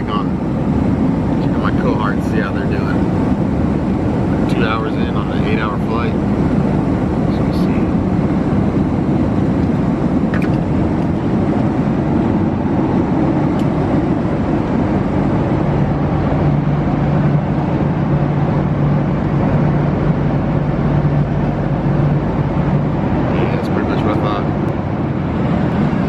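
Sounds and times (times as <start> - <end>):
jet cabin engine noise: 0.0 - 26.0
low hum: 0.0 - 26.0.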